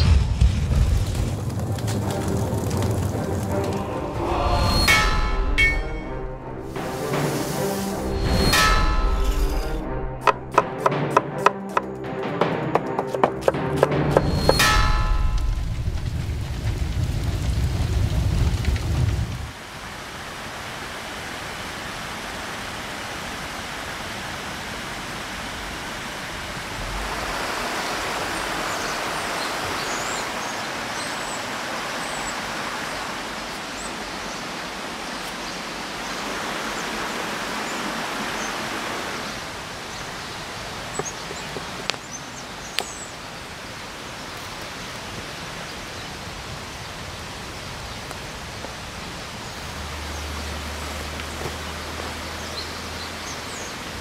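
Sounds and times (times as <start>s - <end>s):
river flowing: 1.6s - 17.4s, 19.5s - 54.0s.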